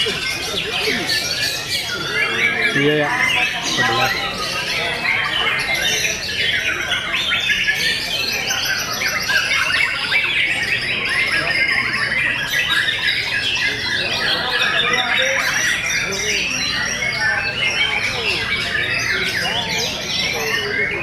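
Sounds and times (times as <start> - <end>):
birds singing and chattering: 0.0 - 21.0.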